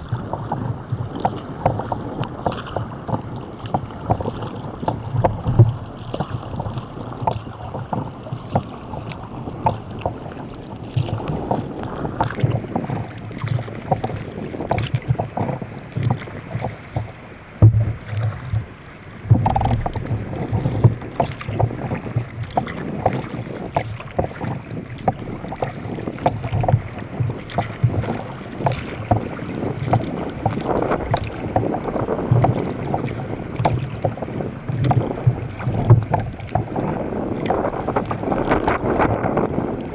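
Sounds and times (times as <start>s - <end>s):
water splashing against kayak hull: 0.0s - 39.9s
wind rumbling on microphone: 0.0s - 39.9s.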